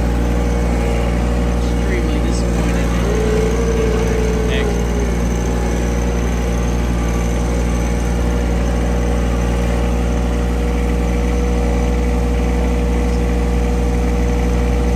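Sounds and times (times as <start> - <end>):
vehicle engine running steadily: 0.0 - 14.9.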